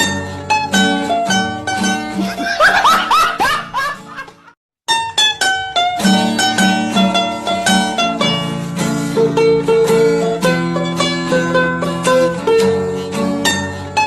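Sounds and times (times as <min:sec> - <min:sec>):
plucked string instrument tune: 0:00.0 - 0:14.0.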